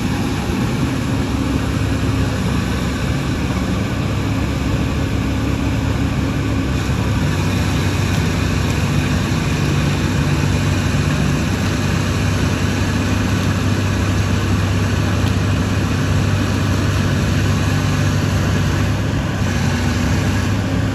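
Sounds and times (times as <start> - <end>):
bulldozer diesel engine running: 0.0 - 20.9.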